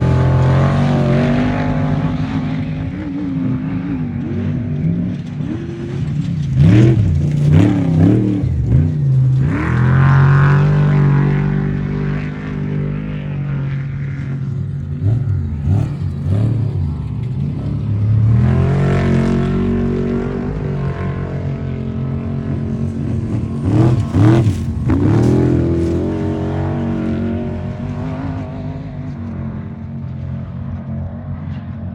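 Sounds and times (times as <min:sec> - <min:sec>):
truck engine revving: 0:00.0 - 0:29.3.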